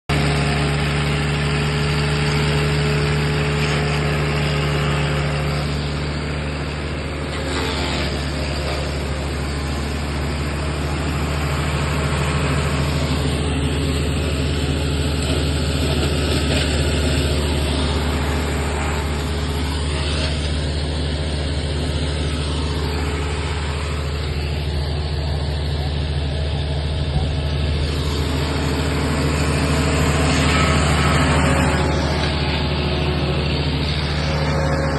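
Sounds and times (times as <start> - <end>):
wood crusher machine running: 0.1 - 34.9.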